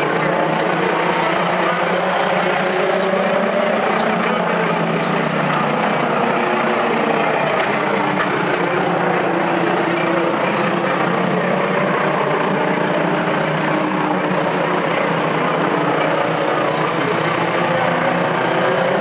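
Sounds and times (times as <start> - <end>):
race truck engines droning: 0.0 - 19.0.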